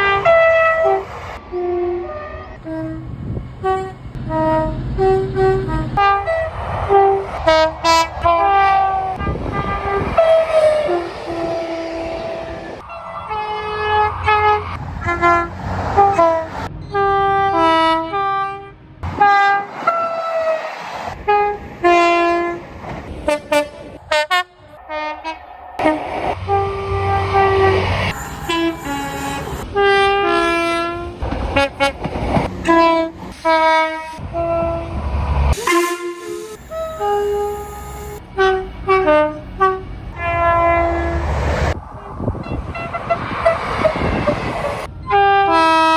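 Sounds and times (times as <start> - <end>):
two-tone train horn blasts: 0.0 - 20.6, 21.2 - 22.6, 23.2 - 45.9
low rumble of trains: 0.0 - 45.9.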